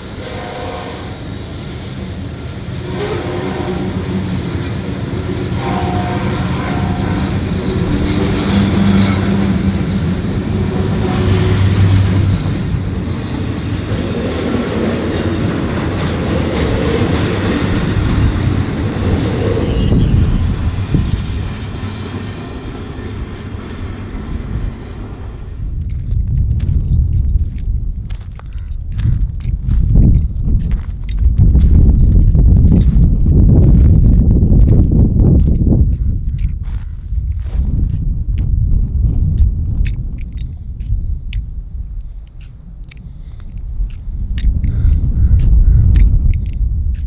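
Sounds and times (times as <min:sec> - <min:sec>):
rail cars clattering: 0:00.0 - 0:38.0
freight train rumble: 0:00.0 - 0:47.0.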